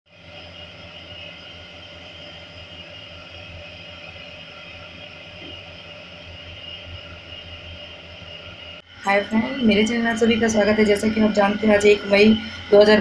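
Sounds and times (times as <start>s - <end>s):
mechanical hum and whir: 0.1s - 13.0s.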